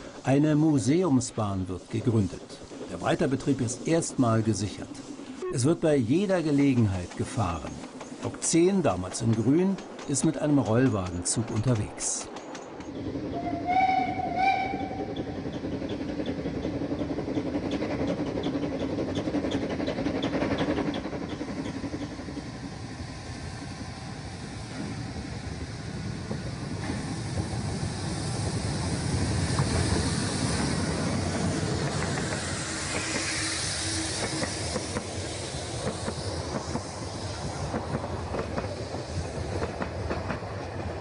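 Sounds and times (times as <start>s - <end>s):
steam hissing: 0.0s - 12.4s, 18.9s - 41.0s
steam locomotive chugging: 0.0s - 41.0s
train coaches rumbling past: 0.0s - 41.0s.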